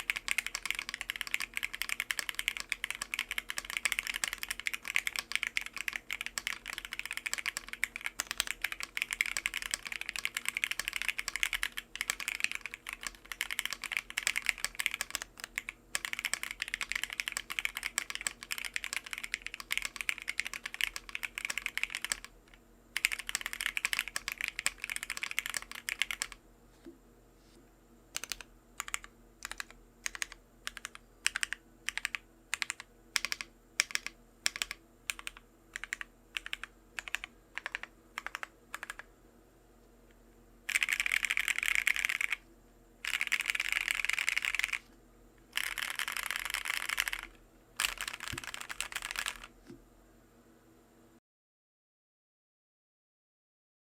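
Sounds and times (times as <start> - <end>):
mechanical keyboard typing: 0.0 - 26.4, 28.2 - 39.1, 40.7 - 42.4, 43.0 - 44.8, 45.5 - 49.5.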